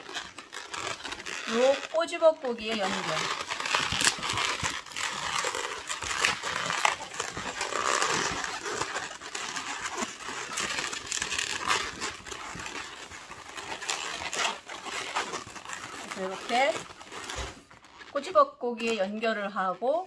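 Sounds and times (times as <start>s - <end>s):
balloons squeaking and rubbing: 0.0s - 20.0s.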